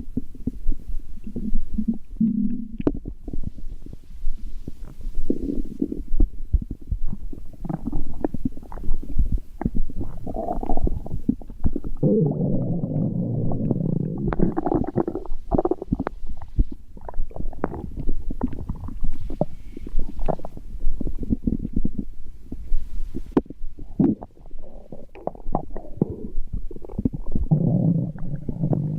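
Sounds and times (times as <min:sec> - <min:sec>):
stomach growling and gurgling: 0:00.0 - 0:28.9.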